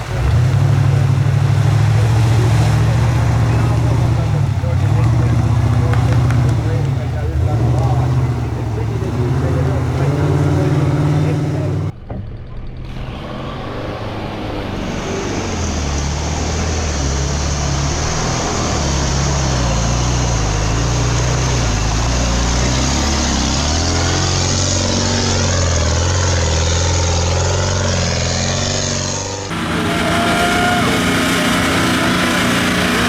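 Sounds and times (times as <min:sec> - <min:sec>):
truck engine working hard: 0:00.0 - 0:11.9, 0:13.0 - 0:33.0.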